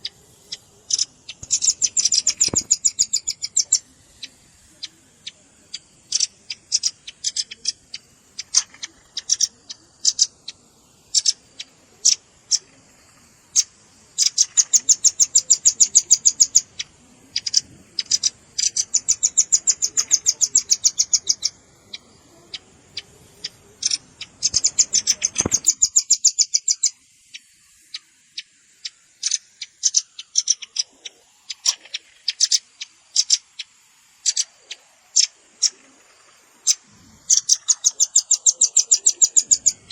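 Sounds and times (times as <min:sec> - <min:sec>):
bird chip notes and trills: 0:00.0 - 0:39.9
faint background hiss: 0:00.0 - 0:39.9.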